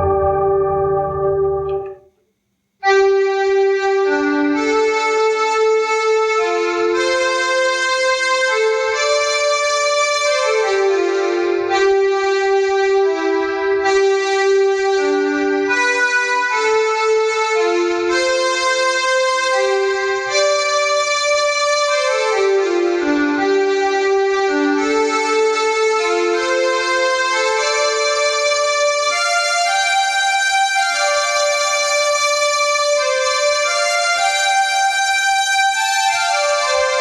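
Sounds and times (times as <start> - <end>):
electronic keyboard playing chords: 0.0 - 2.1, 2.8 - 37.0.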